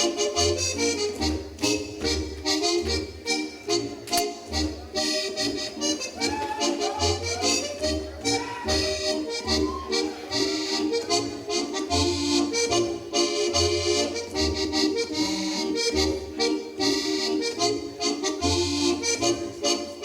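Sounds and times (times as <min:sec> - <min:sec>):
accordion folk dance music: 0:00.0 - 0:20.0.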